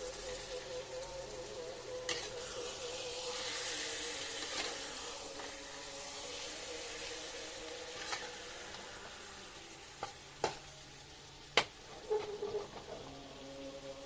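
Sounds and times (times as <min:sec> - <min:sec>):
pan hissing: 0:00.0 - 0:14.0.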